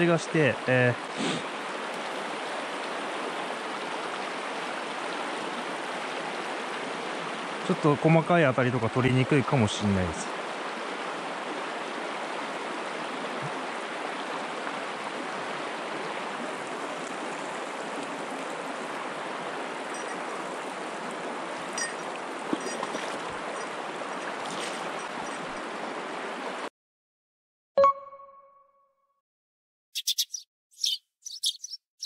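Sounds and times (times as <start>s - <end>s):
river flowing over stones: 0.1s - 26.7s.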